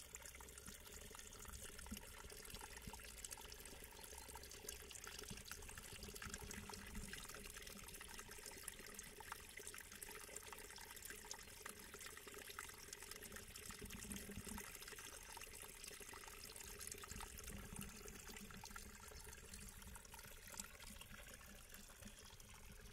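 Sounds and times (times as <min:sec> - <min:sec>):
shallow water trickling: 0:00.0 - 0:22.9.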